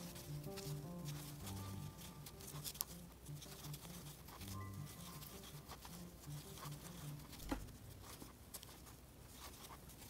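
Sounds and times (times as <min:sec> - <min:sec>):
yarn rustling: 0:00.0 - 0:10.0.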